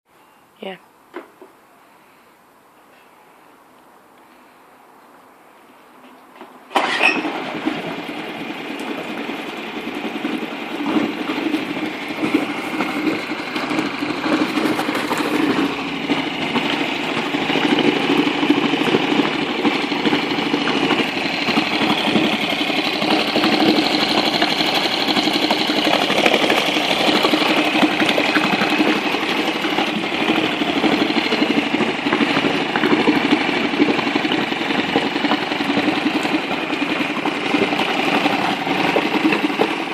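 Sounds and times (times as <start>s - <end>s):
outboard motor starting and idling: 6.7s - 39.9s.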